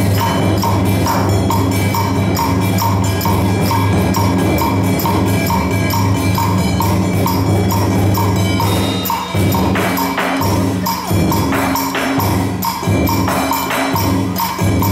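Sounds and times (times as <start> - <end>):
drums and percussion: 0.0 - 14.9.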